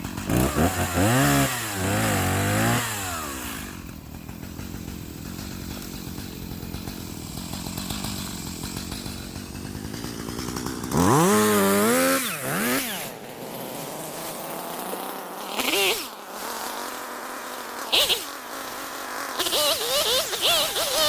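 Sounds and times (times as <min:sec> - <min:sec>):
chainsaw idling and revving: 0:00.0 - 0:21.0.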